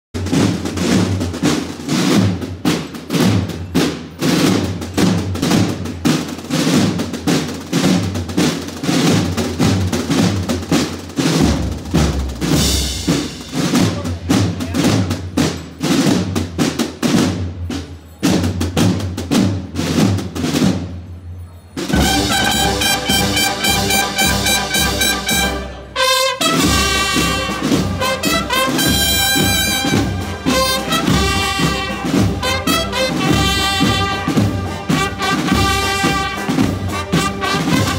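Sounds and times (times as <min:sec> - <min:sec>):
bass drums marching beat: 0:00.2 - 0:20.8, 0:21.9 - 0:37.9
snare drums rolling: 0:00.2 - 0:21.0, 0:21.8 - 0:37.9.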